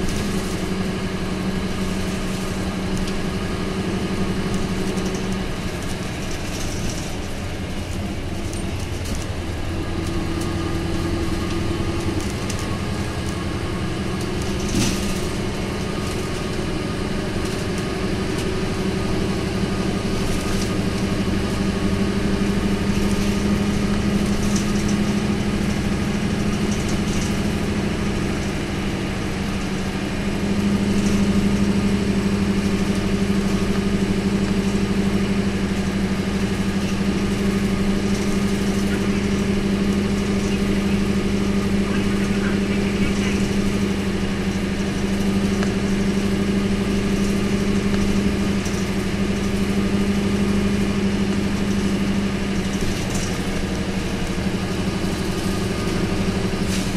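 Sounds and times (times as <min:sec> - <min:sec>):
bus diesel engine running hard: 0:00.0 - 0:56.9
road noise: 0:00.0 - 0:56.9.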